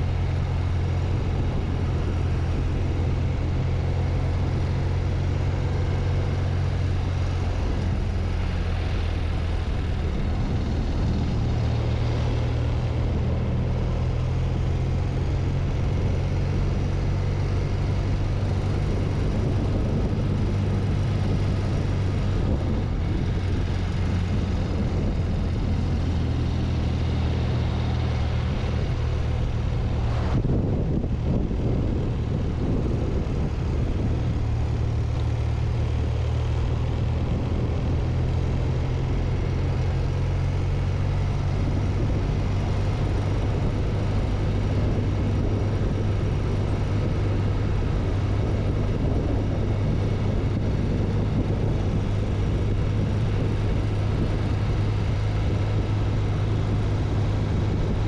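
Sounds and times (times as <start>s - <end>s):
motorcycle engine running: 0.0s - 58.0s
road noise: 0.0s - 58.0s
wind noise: 0.0s - 58.0s.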